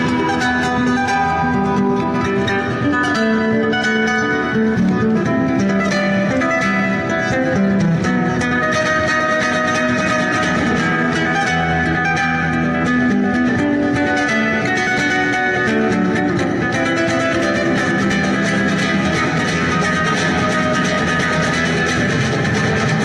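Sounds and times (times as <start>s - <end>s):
flamenco guitar playing: 0.0s - 23.0s.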